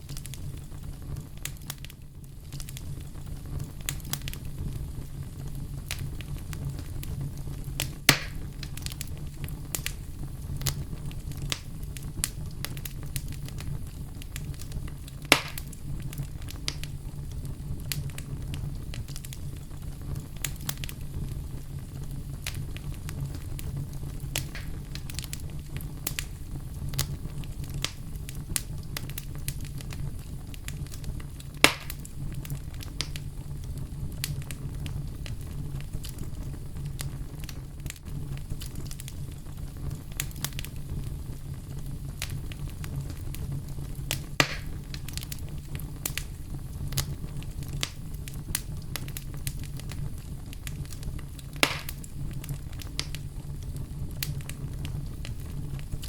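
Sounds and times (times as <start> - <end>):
bonfire crackling: 0.0 - 56.0
fire popping: 0.0 - 56.0
low fire rumble: 0.0 - 56.0.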